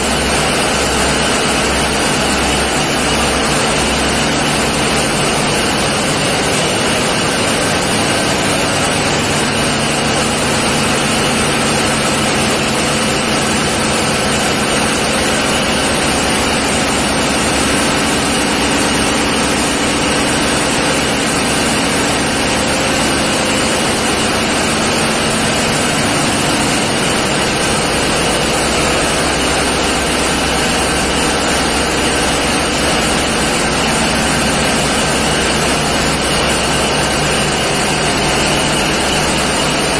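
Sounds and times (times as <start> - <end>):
marine diesel engines running: 0.0 - 39.9.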